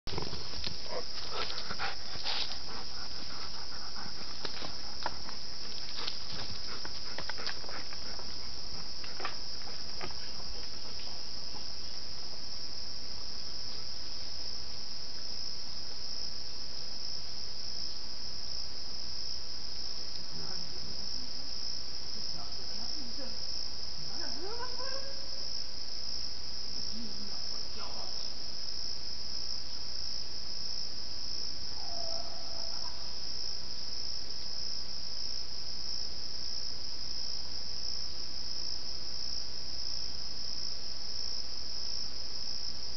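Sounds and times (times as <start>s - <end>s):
crickets chirping: 0.1s - 42.9s.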